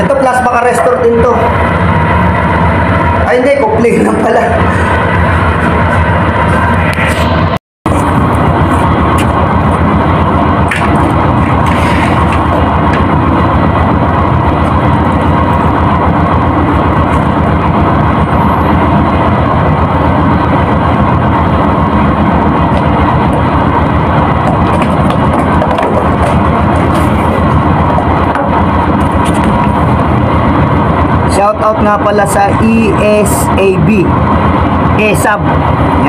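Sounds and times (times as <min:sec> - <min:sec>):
ship engine drone: 0:00.0 - 0:36.0.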